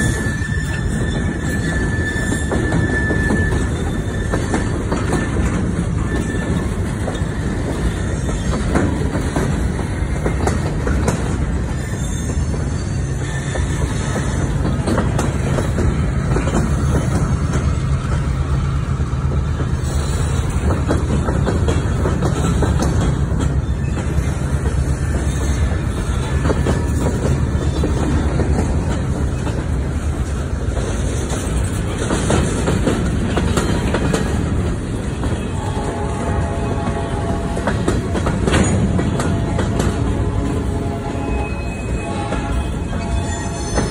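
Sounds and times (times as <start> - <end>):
wheels clicking over rail joints: 0.0 - 40.9
freight train rumbling: 0.0 - 43.9.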